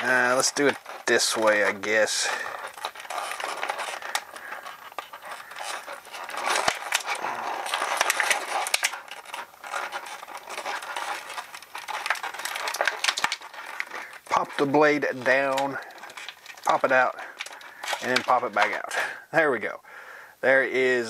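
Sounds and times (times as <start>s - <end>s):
plastic clicks and scratches: 0.0s - 19.0s
plastic blister tray crinkling: 0.0s - 19.6s.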